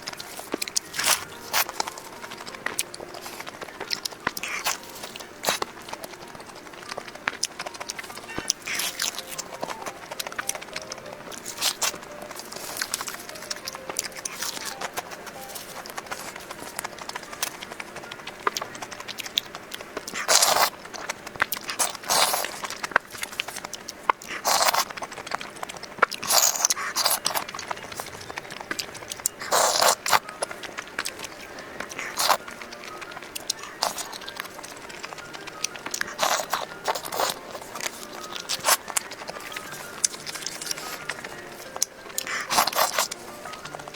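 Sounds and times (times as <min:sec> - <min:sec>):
crunchy bites: 0:00.0 - 0:43.9
quiet chewing: 0:00.0 - 0:43.9.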